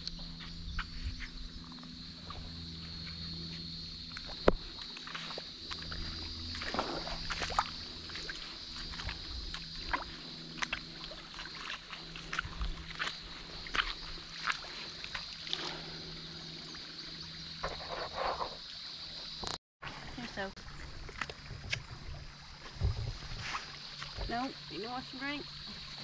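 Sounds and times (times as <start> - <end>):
high-pitched insect drone: 0.0 - 19.6, 22.8 - 26.0
creek water trickling over rock: 2.2 - 26.0.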